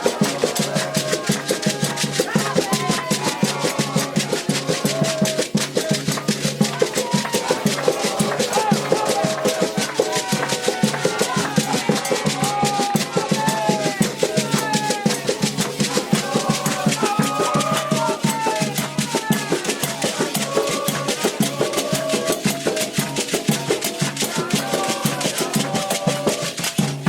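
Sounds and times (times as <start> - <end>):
fast hand drumming: 0.0 - 27.0
shaken rattles: 0.0 - 27.0
voices singing a chant: 0.0 - 27.0.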